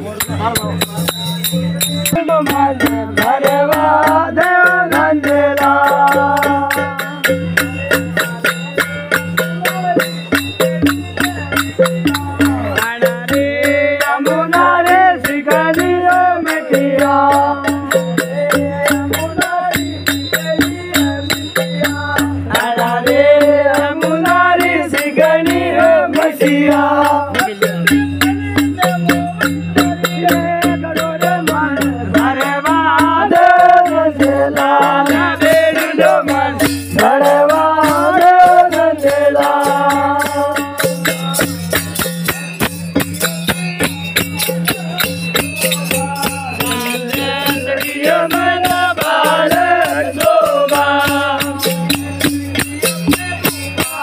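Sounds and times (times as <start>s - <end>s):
person singing chant-like melody: 2.1s - 10.1s, 10.7s - 42.1s, 43.8s - 54.0s.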